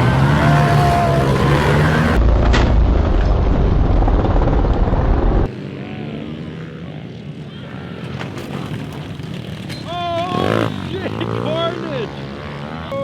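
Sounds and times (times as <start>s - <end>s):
dirt bike engines revving: 0.0s - 2.3s, 3.9s - 13.0s.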